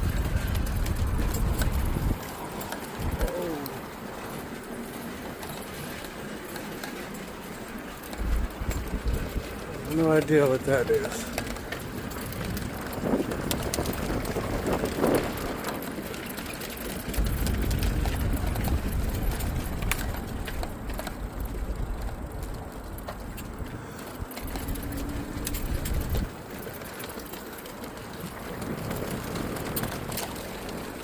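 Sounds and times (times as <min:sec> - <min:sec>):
tyre rumble: 0:00.0 - 0:03.9, 0:08.1 - 0:31.0
wind buffeting microphone: 0:00.0 - 0:06.3, 0:08.0 - 0:31.0
scattered clicks: 0:00.0 - 0:31.0.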